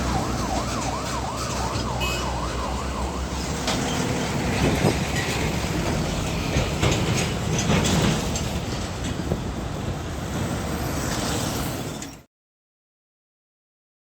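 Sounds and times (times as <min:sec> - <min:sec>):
heavy vehicle passing: 0:00.0 - 0:11.9.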